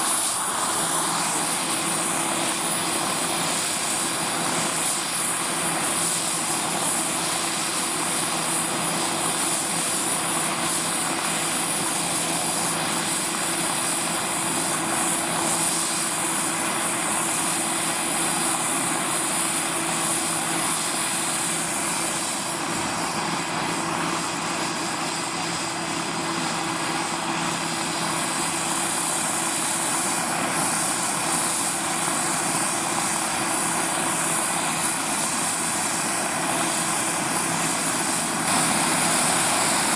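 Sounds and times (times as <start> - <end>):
model helicopter engine and rotors: 0.0 - 39.9.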